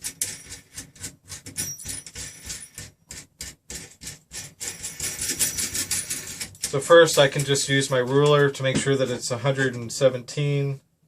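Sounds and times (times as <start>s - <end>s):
parts rubbing: 0.0s - 9.9s.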